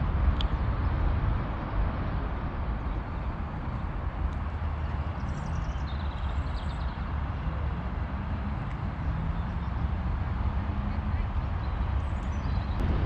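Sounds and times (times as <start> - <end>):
low town rumble: 0.0 - 13.0.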